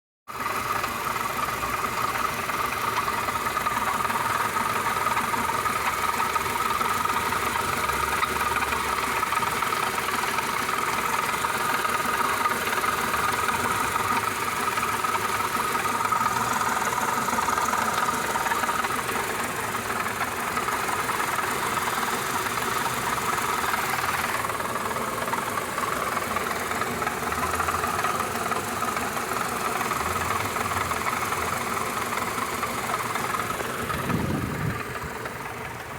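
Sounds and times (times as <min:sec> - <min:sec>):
car engine running: 0:00.3 - 0:35.9.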